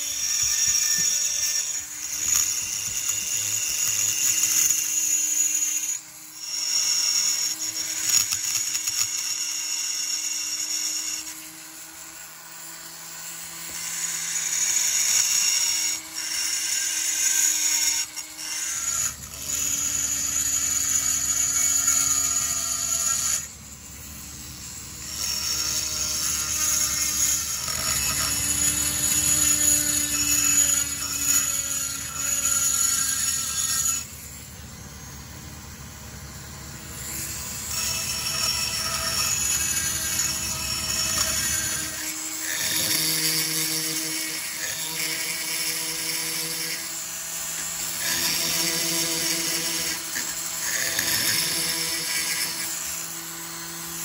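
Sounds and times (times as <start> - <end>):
rotary tool grinding whine: 0.0 - 54.0.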